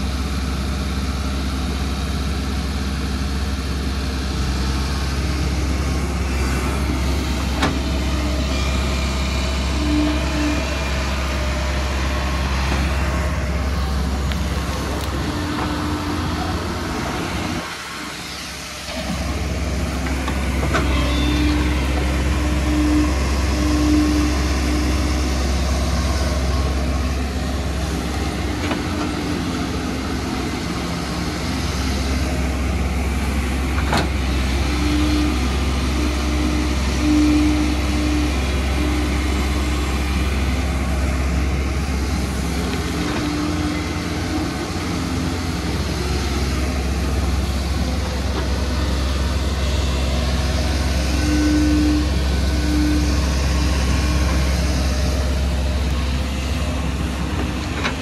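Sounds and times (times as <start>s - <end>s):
excavator diesel engines running: 0.0s - 58.0s
humming tone: 6.5s - 31.0s, 33.8s - 57.9s.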